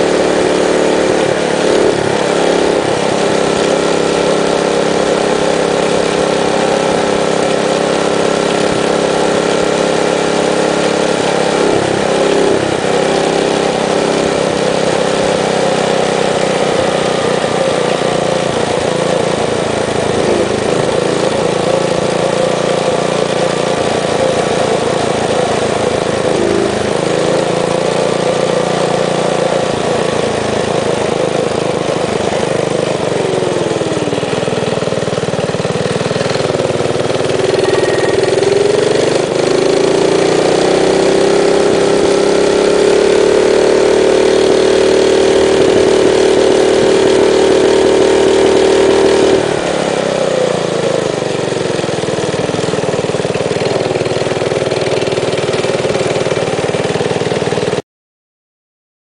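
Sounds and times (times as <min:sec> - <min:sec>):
minibike engine running: 0:00.0 - 0:57.8.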